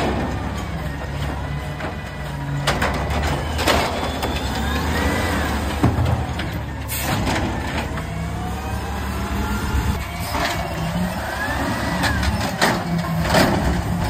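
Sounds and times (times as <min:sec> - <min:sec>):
garbage truck diesel engine: 0:00.0 - 0:14.0.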